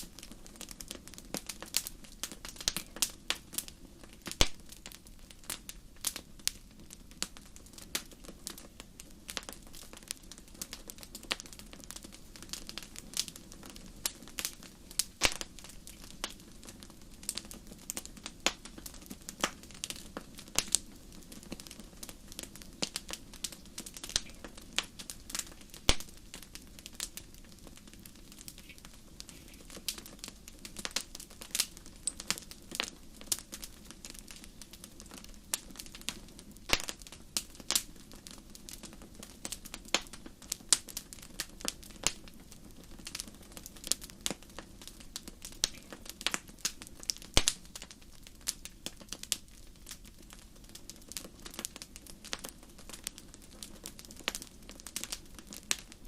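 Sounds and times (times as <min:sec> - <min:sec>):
flames rushing: 0:00.0 - 0:56.0
wood fire crackling: 0:00.0 - 0:56.0.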